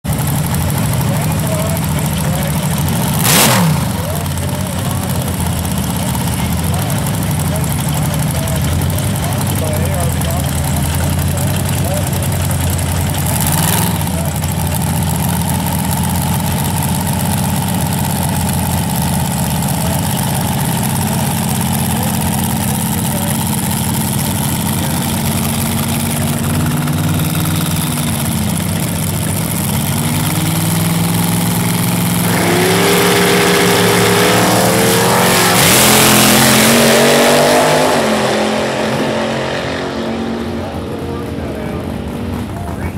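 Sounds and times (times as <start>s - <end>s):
dragster engine idling and revving: 0.0s - 42.9s.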